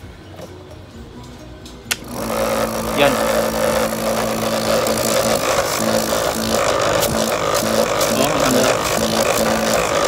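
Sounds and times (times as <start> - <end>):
nebulizer motor buzzing: 1.9 - 10.0.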